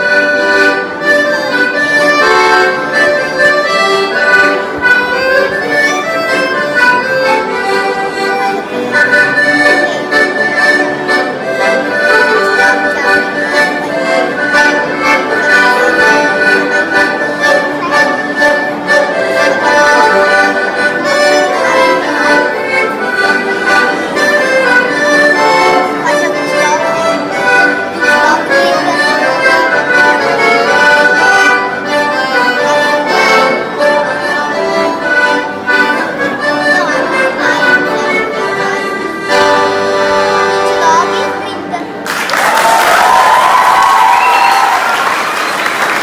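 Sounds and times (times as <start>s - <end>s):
accordions playing a duet: 0.0s - 42.1s.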